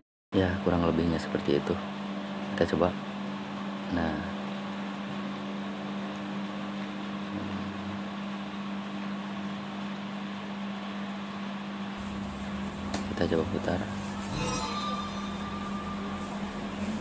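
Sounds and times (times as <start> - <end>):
low machine hum: 0.4 - 17.0.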